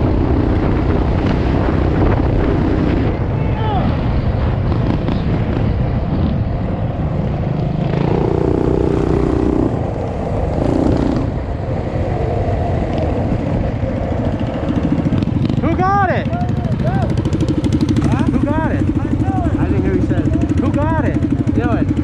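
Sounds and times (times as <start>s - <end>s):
small motorbike engines rumbling: 0.0s - 22.0s.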